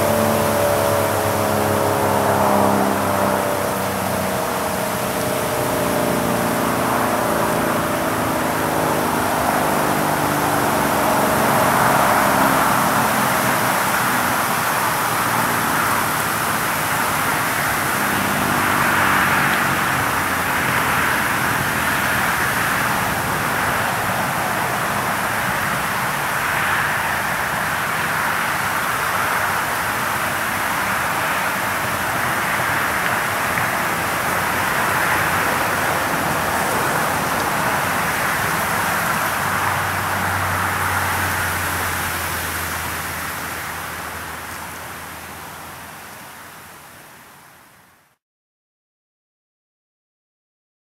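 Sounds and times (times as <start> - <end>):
steady rushing noise: 0.0 - 46.6.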